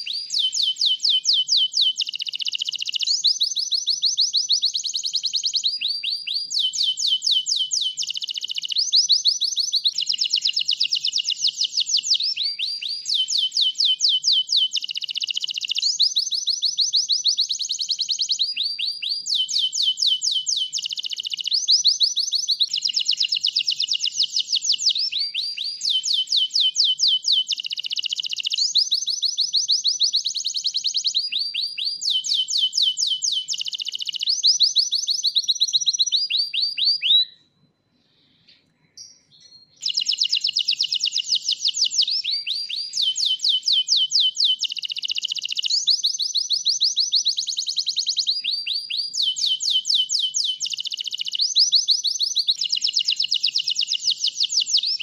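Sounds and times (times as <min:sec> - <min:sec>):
canary singing trills: 0:00.0 - 0:37.4, 0:38.9 - 0:55.0.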